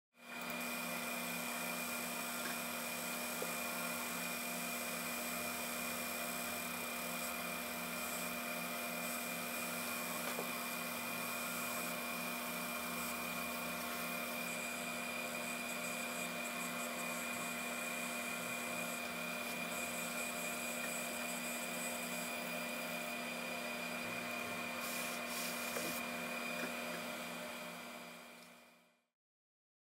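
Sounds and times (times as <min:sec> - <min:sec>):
laser engraving machine hum: 0:00.2 - 0:28.9.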